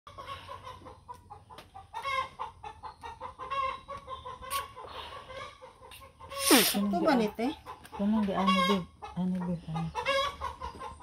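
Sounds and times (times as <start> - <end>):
chicken clucking: 0.1 - 11.0.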